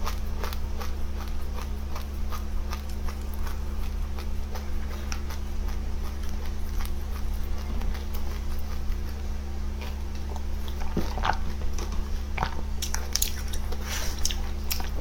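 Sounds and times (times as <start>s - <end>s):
low electrical hum: 0.0s - 15.0s
seeds being bitten and eaten: 0.0s - 15.0s.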